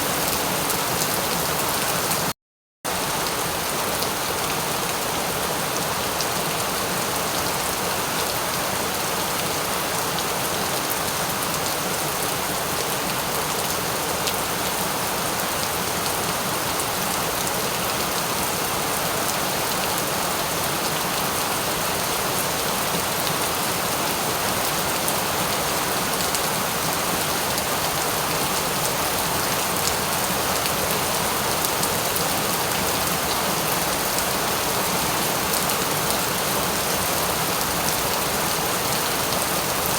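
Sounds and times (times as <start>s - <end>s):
steady rain falling: 2.9s - 39.9s.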